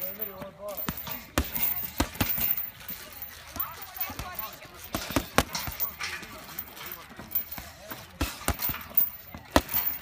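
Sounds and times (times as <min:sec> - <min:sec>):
gloves punching heavy bag: 0:00.0 - 0:06.0, 0:07.1 - 0:10.0.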